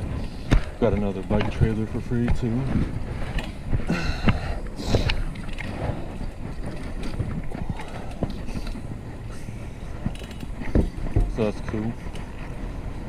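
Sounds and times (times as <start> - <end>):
road rumble: 0.0 - 13.0
small rattles and clicks: 0.0 - 13.0
wind buffeting microphone: 0.0 - 13.0.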